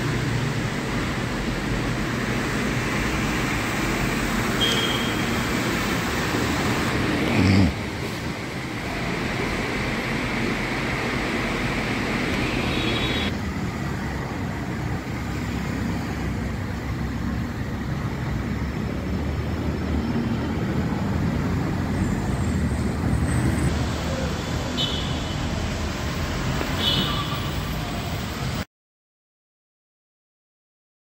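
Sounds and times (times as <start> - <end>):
city road traffic: 0.0 - 28.7.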